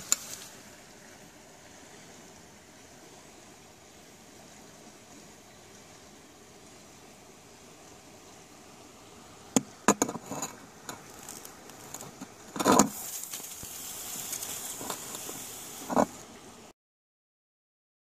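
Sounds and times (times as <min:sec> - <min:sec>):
steady hiss: 0:00.0 - 0:16.7.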